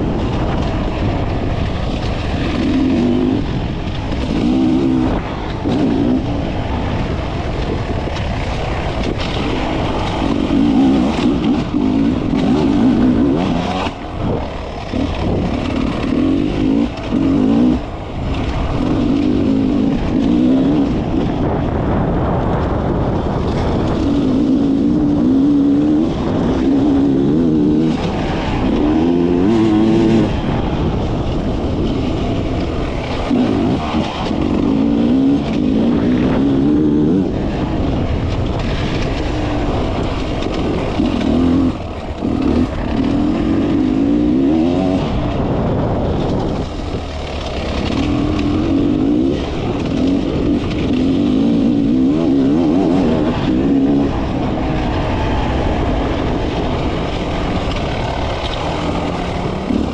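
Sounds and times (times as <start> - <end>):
chassis rattle: 0.0 - 59.9
dirt bike engine running: 0.0 - 59.9
wind: 0.0 - 59.9.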